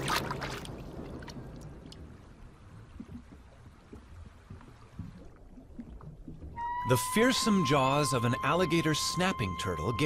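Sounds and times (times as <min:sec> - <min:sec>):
water gurgles: 0:00.0 - 0:08.1.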